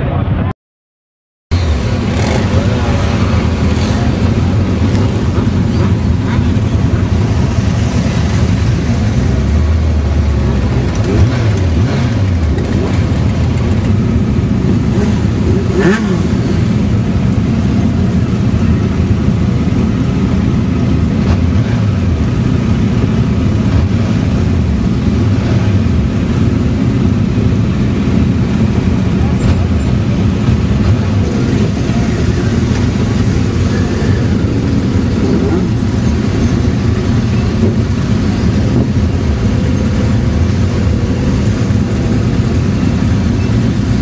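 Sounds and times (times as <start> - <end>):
group of motorcycle engines rumbling: 0.0 - 0.5, 1.5 - 44.0.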